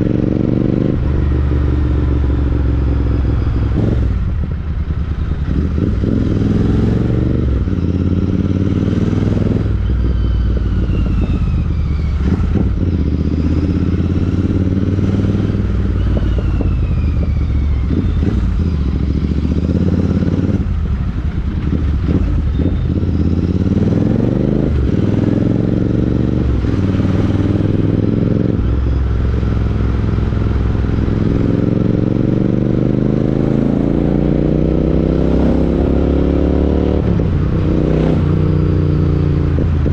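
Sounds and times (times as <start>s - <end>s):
motorcycle engine riding along: 0.0s - 39.9s.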